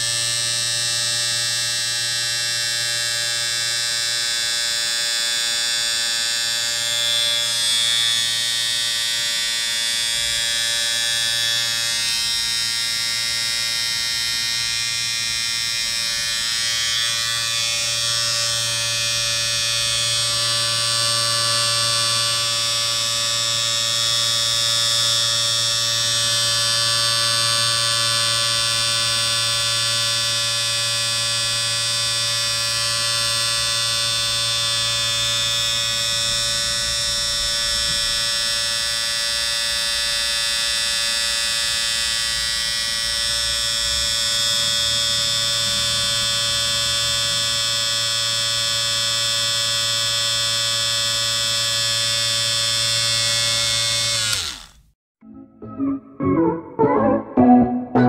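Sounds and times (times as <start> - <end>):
electric shaver buzzing: 0.0 - 54.9.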